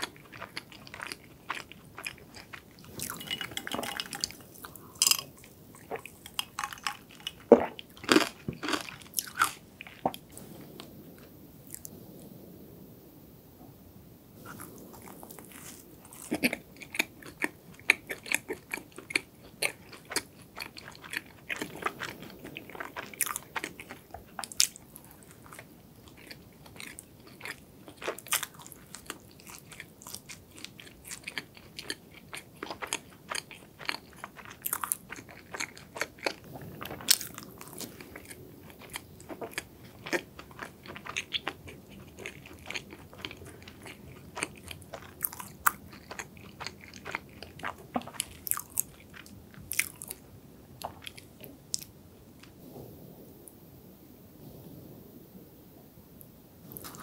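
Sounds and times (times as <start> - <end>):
biting and chewing crunches: 0.0 - 10.3, 14.4 - 50.2, 56.7 - 57.0.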